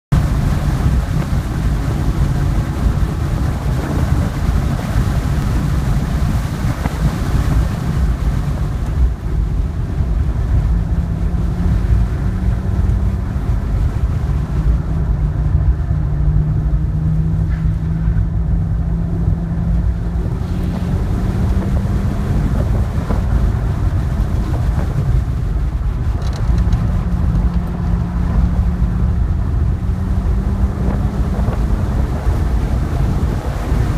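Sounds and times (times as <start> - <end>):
car engine drone: 0.0 - 33.9
road and wind noise: 0.0 - 33.9.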